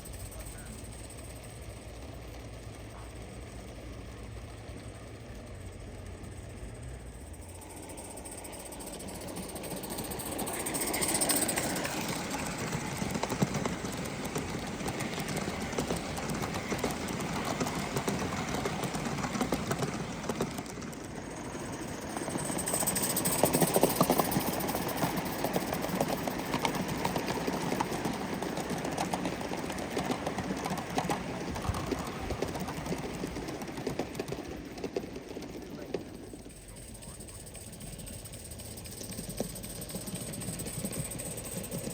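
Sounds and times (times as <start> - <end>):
steam locomotive exhaust beats: 0.0 - 41.9
wheel clatter on rails: 0.0 - 41.9.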